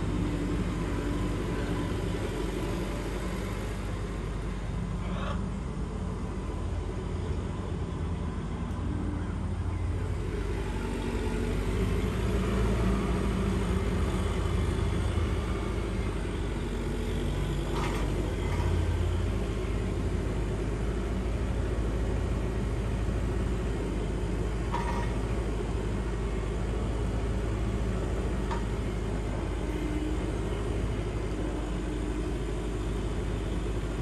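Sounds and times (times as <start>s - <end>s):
tractor diesel engine running: 5.6s - 34.0s.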